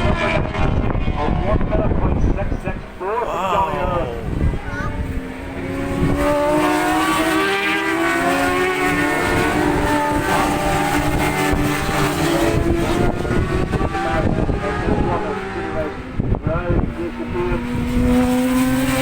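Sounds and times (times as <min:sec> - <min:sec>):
race motorcycles passing: 0:00.0 - 0:19.0.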